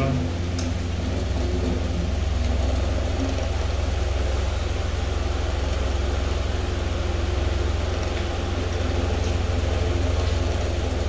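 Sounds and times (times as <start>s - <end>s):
electric fan droning: 0.0s - 11.0s.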